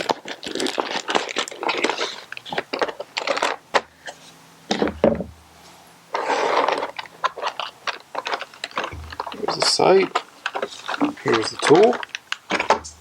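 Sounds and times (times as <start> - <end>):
scraping and rustling: 0.0 - 13.0.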